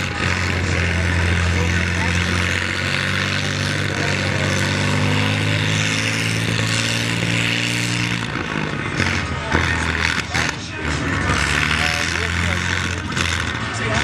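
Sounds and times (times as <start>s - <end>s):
helicopter engine running: 0.0s - 14.0s.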